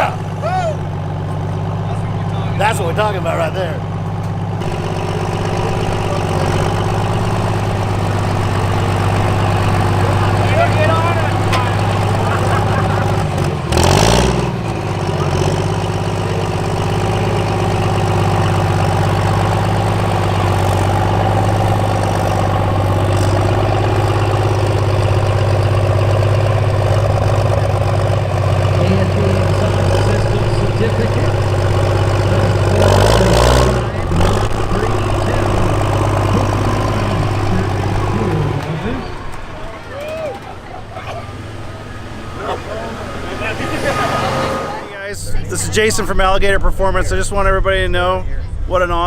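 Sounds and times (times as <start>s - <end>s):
diesel truck engine idling: 0.0s - 49.0s.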